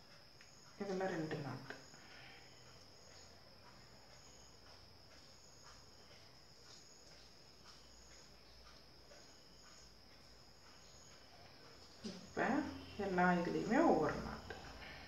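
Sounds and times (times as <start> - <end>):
soft ticks: 0.0 - 14.9
high-pitched hum: 0.0 - 15.0.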